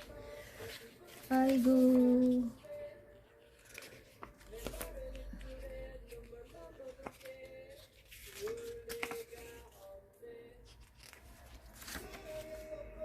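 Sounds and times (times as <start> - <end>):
paper pages rustling and turning: 0.0 - 10.0, 10.6 - 13.0
soft background music: 0.0 - 13.0.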